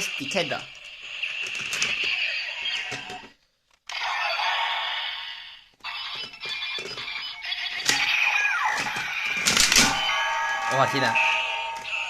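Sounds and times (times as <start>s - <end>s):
toy speaker sound effects and music: 0.0s - 12.0s.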